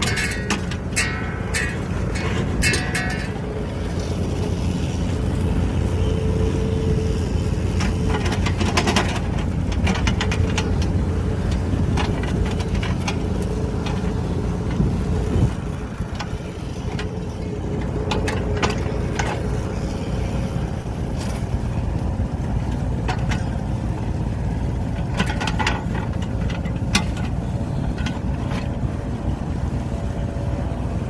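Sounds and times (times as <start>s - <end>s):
backhoe diesel engine rumbling: 0.0s - 31.0s.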